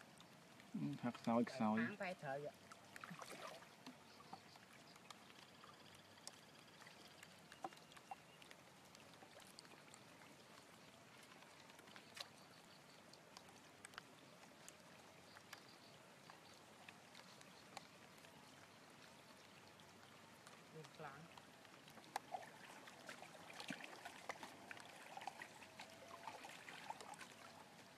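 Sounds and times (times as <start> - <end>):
faint water dripping and splashing: 0.0 - 27.9.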